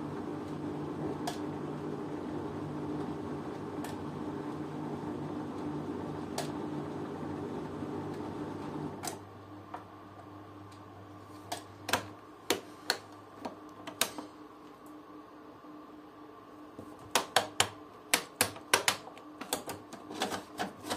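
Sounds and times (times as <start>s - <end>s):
washing machine humming: 0.0s - 20.9s.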